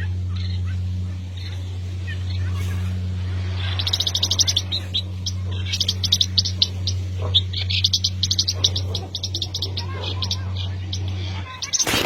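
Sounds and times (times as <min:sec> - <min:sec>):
small bird chirping: 0:00.0 - 0:12.0
steady low hum: 0:00.0 - 0:12.0.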